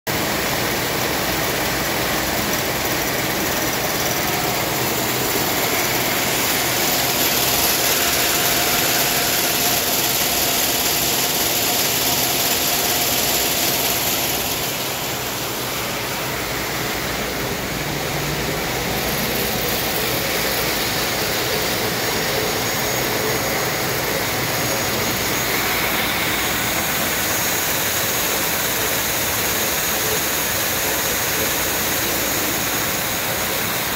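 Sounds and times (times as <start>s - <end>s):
loud steady machine noise: 0.1s - 33.9s.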